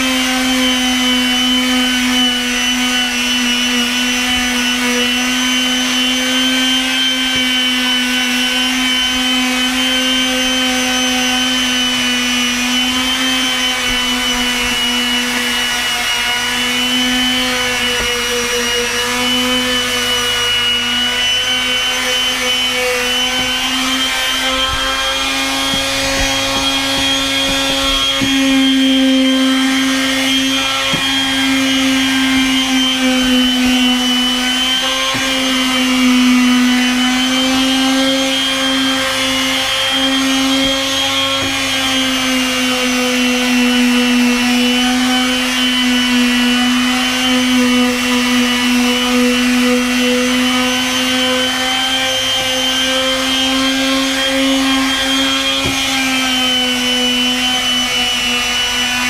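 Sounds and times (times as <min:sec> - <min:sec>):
palm sander motor whine: 0:00.0 - 0:59.0
sandpaper rasping on wood: 0:00.0 - 0:59.0.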